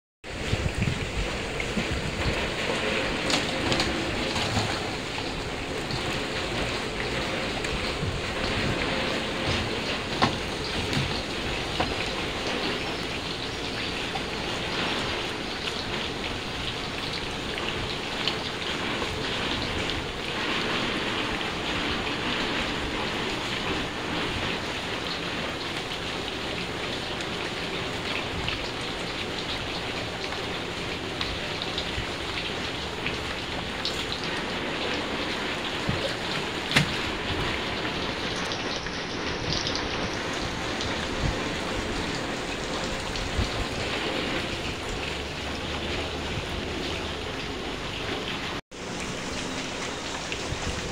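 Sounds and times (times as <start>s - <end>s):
steady rain: 0.2s - 50.9s.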